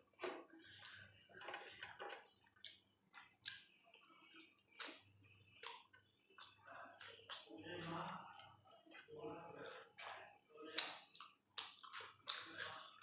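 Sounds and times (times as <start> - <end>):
closed-mouth chewing: 0.0 - 13.0.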